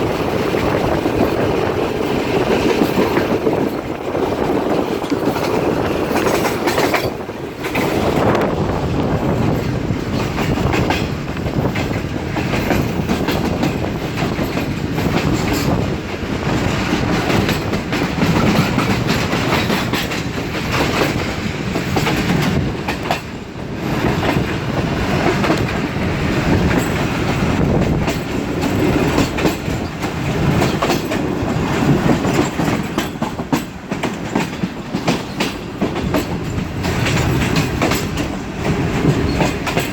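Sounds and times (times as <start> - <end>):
train rumbling: 0.0 - 39.9
wheels clacking over rail joints: 0.0 - 39.9.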